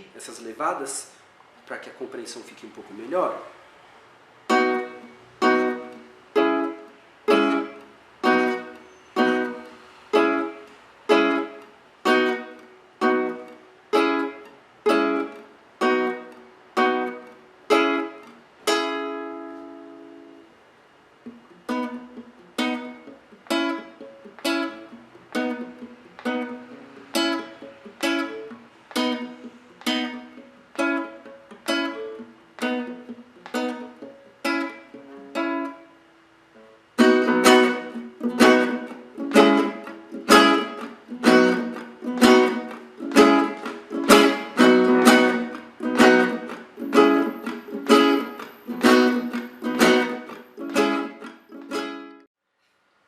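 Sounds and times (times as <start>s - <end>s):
acoustic guitar strumming: 4.0s - 52.3s.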